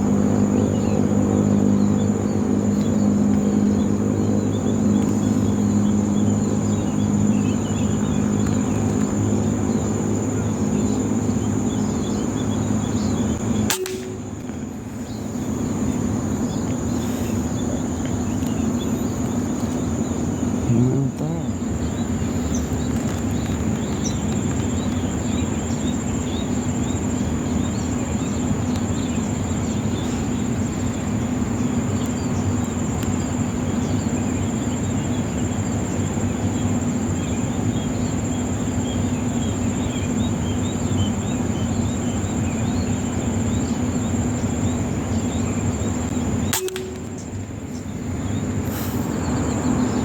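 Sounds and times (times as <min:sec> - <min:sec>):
constant rushing background: 0:00.0 - 0:50.0
high insect drone: 0:00.0 - 0:50.0.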